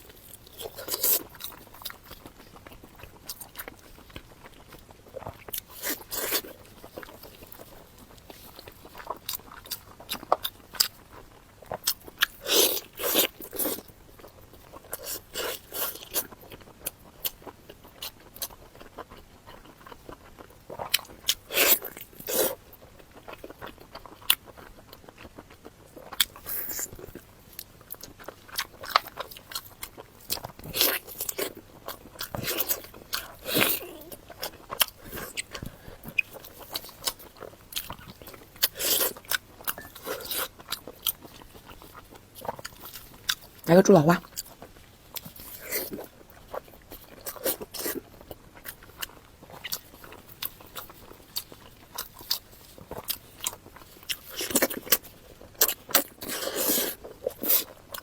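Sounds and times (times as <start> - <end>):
person biting and chewing food: 0.0 - 16.6, 23.2 - 43.6, 44.2 - 58.0.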